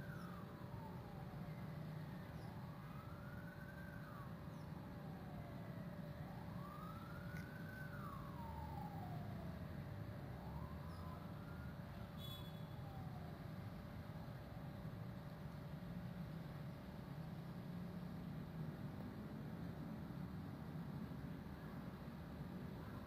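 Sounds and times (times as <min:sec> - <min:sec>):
faint siren wailing: 0:00.0 - 0:23.0.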